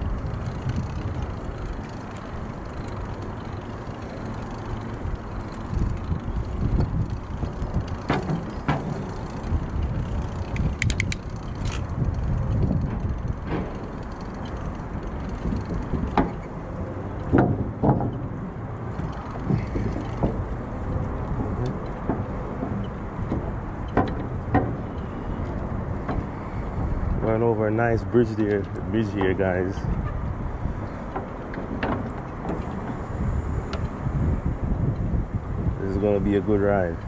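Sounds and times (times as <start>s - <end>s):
bike rattling clicks: 0.0s - 37.0s
wind and tyre rumble: 0.0s - 37.0s.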